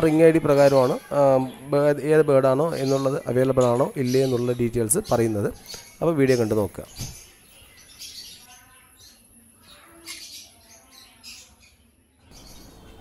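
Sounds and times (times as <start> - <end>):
parrots chirping and squawking: 2.4 - 13.0.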